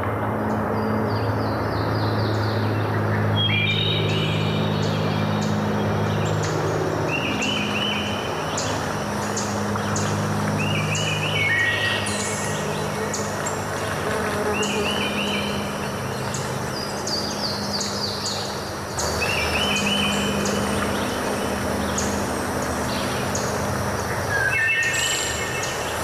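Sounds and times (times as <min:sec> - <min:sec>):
low steady hum: 0:00.0 - 0:24.5
birds chirping: 0:00.5 - 0:26.0.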